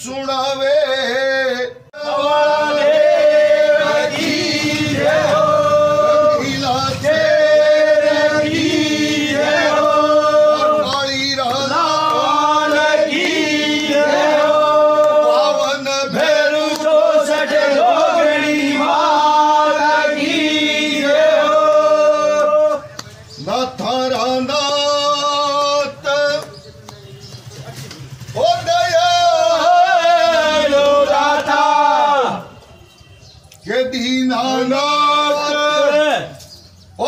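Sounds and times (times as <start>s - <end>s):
voices singing devotional song: 0.0s - 26.9s, 28.2s - 37.0s.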